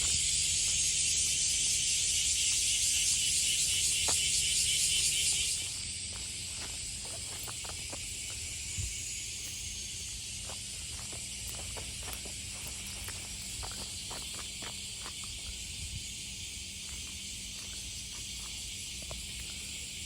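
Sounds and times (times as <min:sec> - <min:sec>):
cicadas shrilling: 0:00.0 - 0:20.0.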